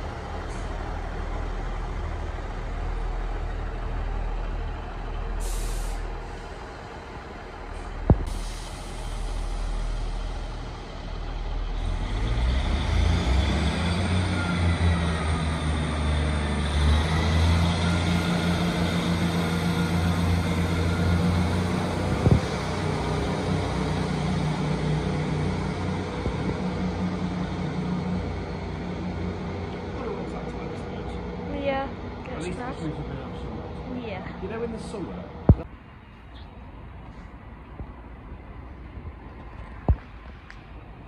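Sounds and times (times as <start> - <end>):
train diesel engines droning: 0.0 - 41.0.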